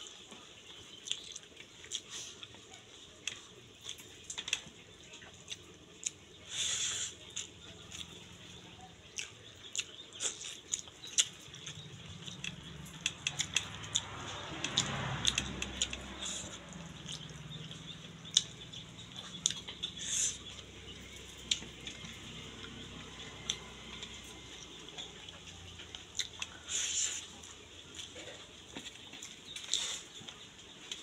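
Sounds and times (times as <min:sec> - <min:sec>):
chewing and lip smacks: 0:00.2 - 0:31.0.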